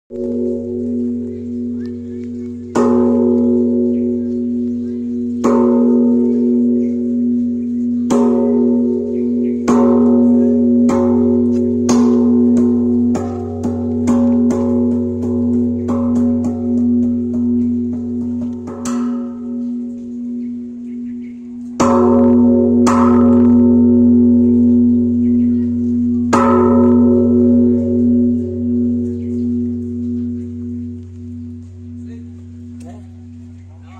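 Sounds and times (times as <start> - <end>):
temple bell clanging and ringing: 0.1 - 33.9.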